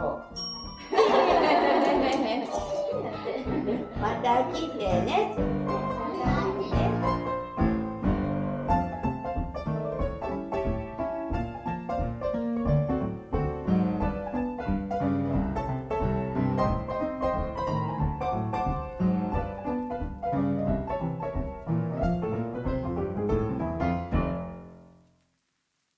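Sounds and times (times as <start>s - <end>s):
instrumental music with piano-like notes: 0.0s - 25.2s.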